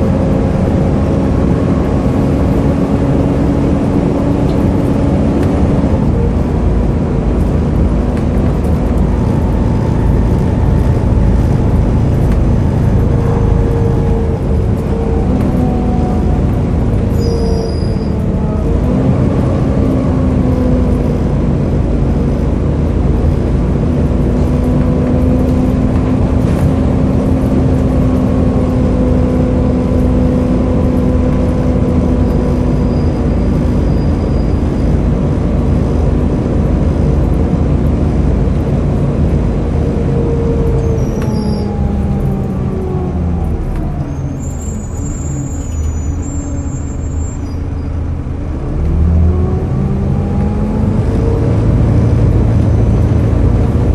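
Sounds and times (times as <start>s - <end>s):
diesel bus engine: 0.0s - 53.9s.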